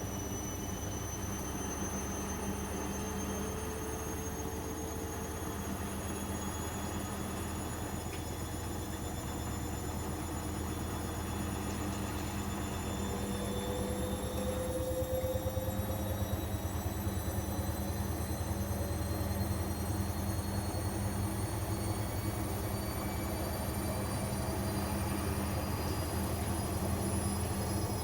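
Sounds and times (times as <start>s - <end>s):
washing machine spinning: 0.2s - 28.0s.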